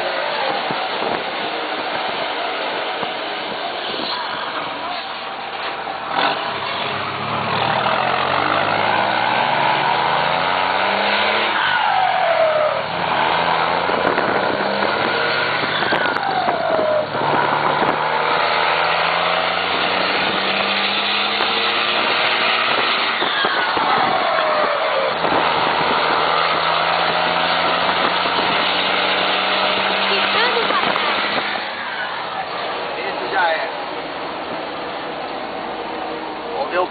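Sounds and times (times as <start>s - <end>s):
diesel truck engine accelerating: 0.0s - 36.9s.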